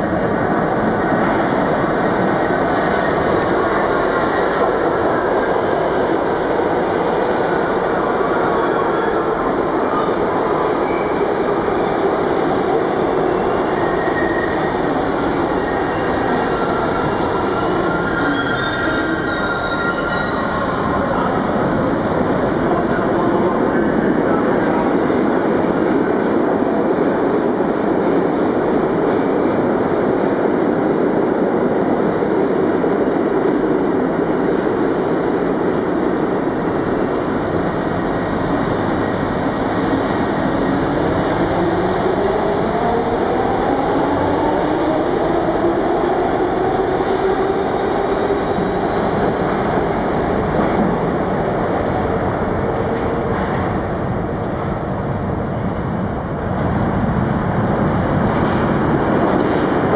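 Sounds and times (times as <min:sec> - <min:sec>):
subway train running: 0:00.0 - 0:59.9.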